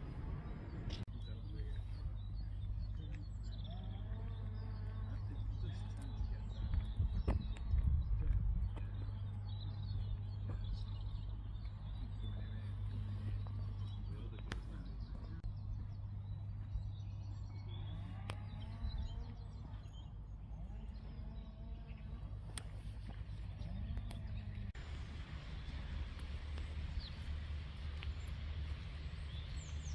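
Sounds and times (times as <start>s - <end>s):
birds chirping and singing: 0.0s - 29.9s
steady low rumble: 0.0s - 29.9s.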